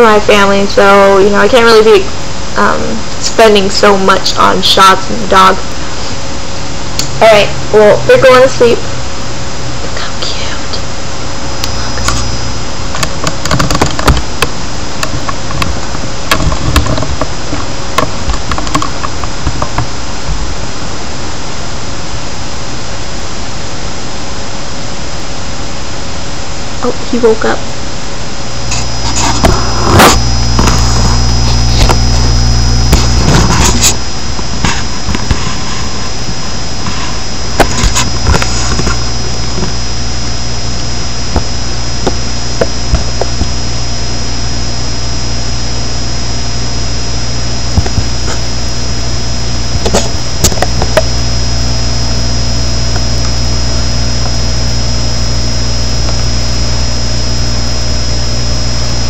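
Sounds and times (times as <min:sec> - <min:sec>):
faint high whine: 0:00.0 - 0:59.0
steady low hum: 0:00.0 - 0:59.0.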